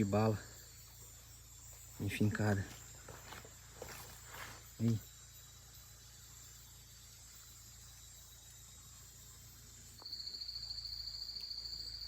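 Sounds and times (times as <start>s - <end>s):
faint high insect hiss: 0.0s - 12.0s
insect fast-pulsing trill: 0.0s - 12.0s.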